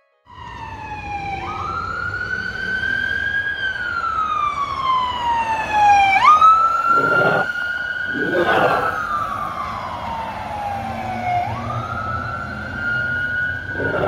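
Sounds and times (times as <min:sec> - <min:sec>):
police car siren wailing: 0:00.3 - 0:14.0.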